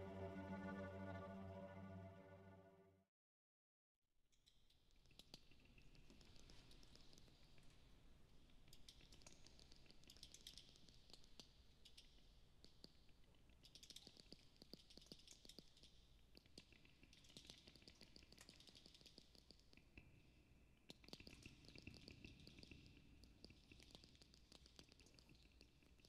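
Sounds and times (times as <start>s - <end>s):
faint clicks: 4.4s - 26.0s.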